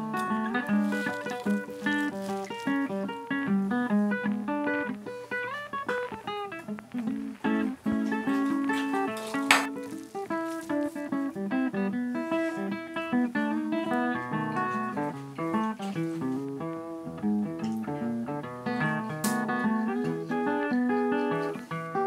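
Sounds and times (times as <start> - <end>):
plucked acoustic guitar: 0.0 - 22.0.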